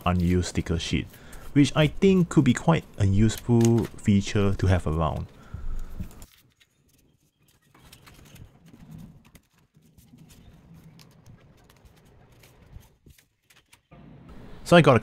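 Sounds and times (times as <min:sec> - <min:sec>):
album pages leafed through: 0:00.0 - 0:14.0
paper and plastic sheets rustling: 0:00.0 - 0:14.0.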